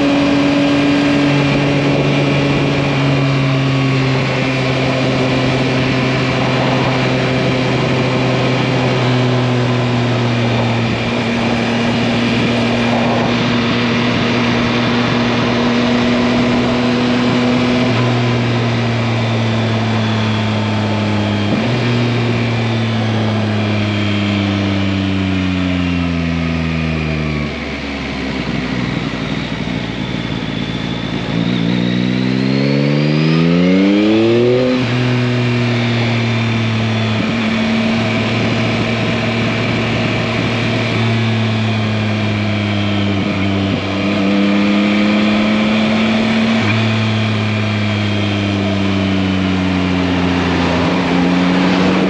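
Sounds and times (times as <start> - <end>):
motorcycle engine: 0.0 - 52.0.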